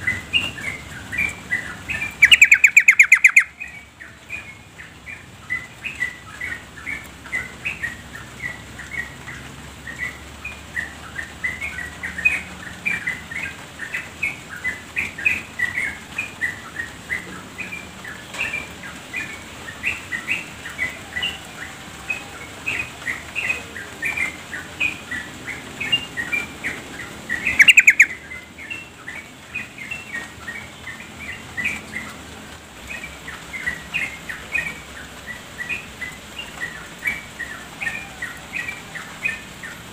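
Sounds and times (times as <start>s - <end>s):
bird chirping calls: 0.0s - 39.9s.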